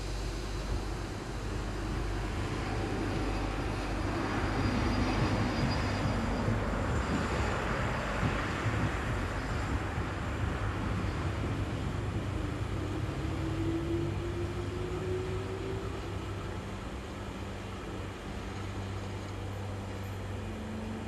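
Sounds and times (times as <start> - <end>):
high whining traction motor: 0.0 - 21.0
train wheels rumbling on rails: 0.0 - 21.0.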